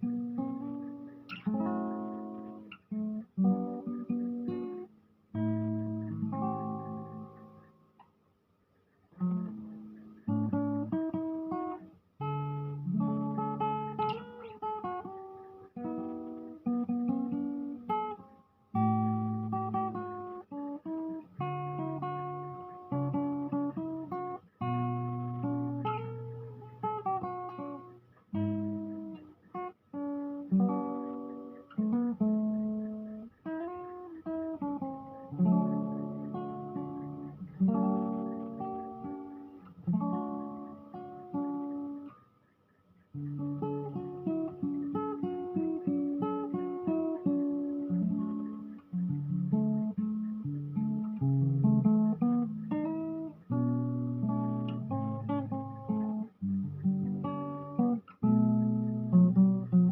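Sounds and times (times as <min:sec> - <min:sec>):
fingerstyle acoustic guitar: 0:00.0 - 0:59.9.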